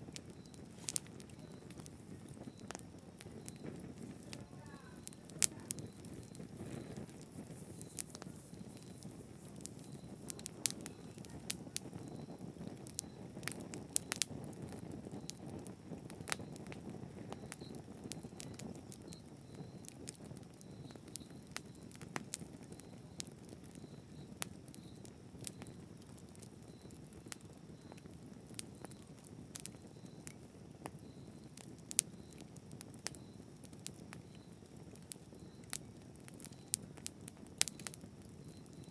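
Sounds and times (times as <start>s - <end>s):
burning wood crackling and popping: 0.0s - 38.9s
low rumble of flame: 0.0s - 38.9s.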